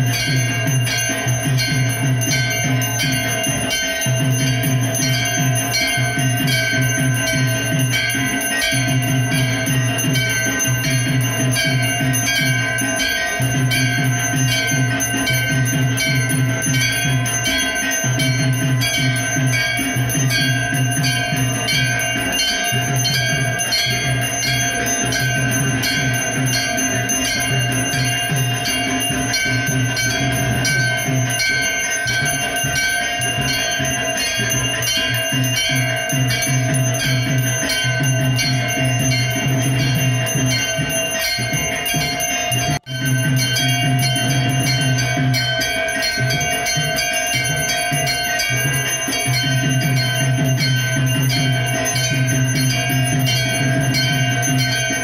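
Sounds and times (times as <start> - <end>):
brass bell rung rapidly: 0.0 - 55.0
low rhythmic beat: 0.0 - 55.0.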